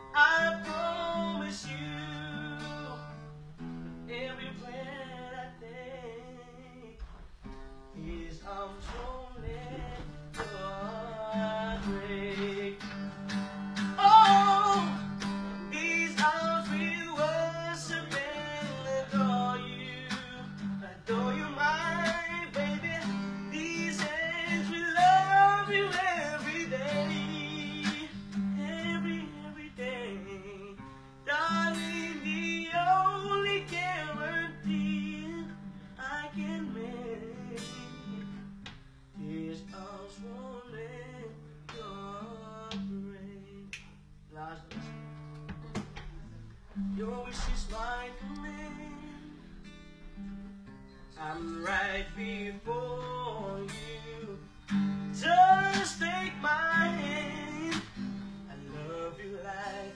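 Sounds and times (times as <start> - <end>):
man singing: 0.0 - 3.2, 4.0 - 38.4, 39.1 - 46.2, 46.8 - 49.8, 51.1 - 59.9
acoustic guitar chords: 0.0 - 59.9.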